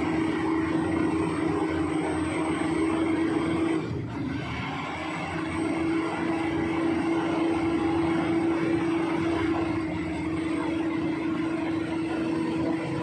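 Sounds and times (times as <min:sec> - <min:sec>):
bulldozer diesel engine: 0:00.0 - 0:13.0
excavator running: 0:00.0 - 0:13.0.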